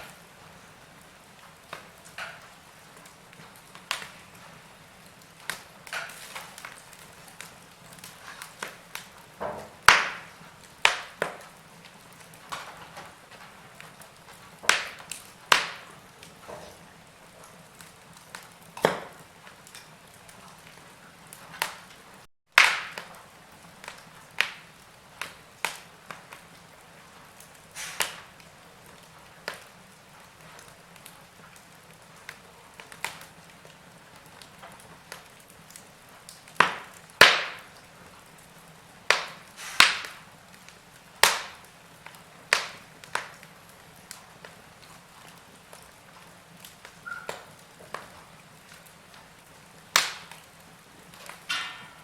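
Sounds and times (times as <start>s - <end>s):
faint steady hiss: 0.0s - 52.0s
wood fire crackling: 0.0s - 52.0s.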